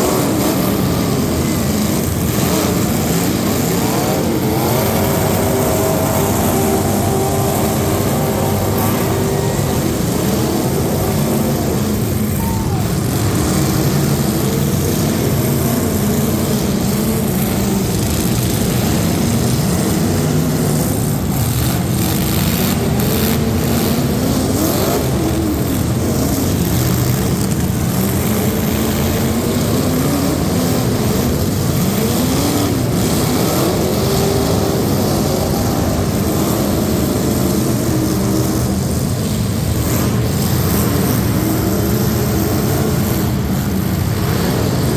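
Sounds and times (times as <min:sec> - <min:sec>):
truck engines revving: 0:00.0 - 0:44.9.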